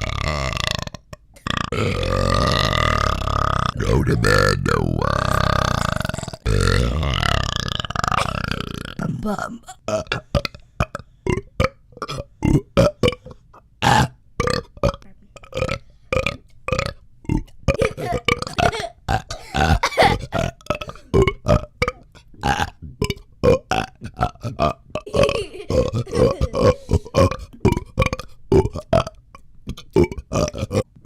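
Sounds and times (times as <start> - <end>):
man burping: 0.0 - 31.0.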